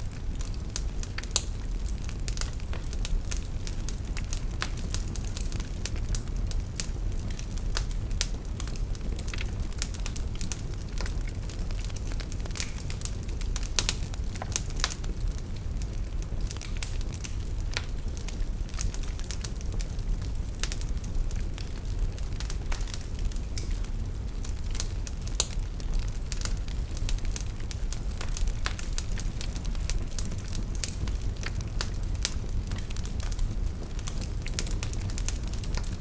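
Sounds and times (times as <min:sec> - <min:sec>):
fireplace fire crackling and popping: 0:00.0 - 0:36.0.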